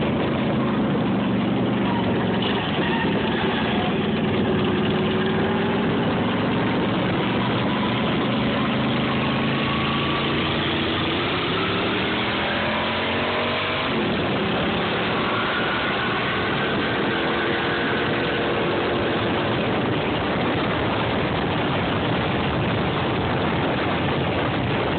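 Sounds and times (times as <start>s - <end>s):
ride-on lawn mower engine: 0.0s - 23.8s.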